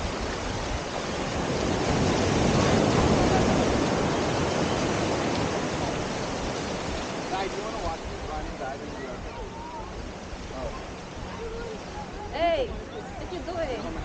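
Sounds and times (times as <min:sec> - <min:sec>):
ocean wave breaking: 0:00.0 - 0:14.0.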